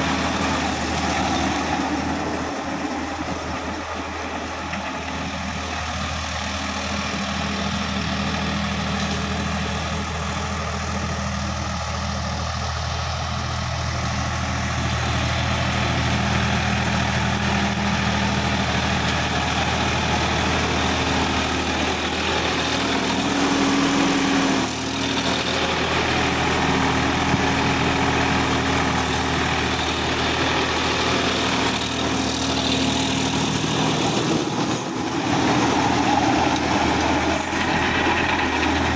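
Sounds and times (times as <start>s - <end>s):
tiller blades churning soil: 0.0s - 38.9s
tractor diesel engine running: 0.0s - 38.9s.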